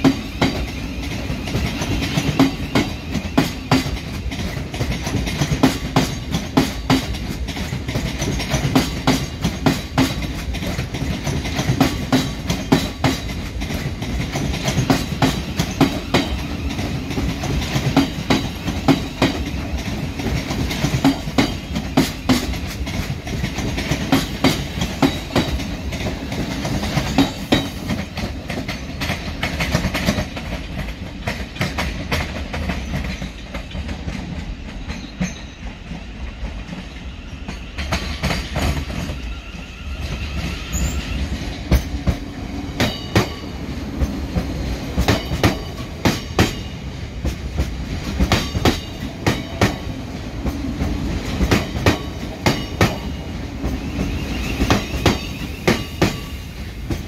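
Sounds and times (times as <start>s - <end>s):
train rumble: 0.0s - 57.0s
train wheels clicking over rail joints: 0.0s - 57.0s.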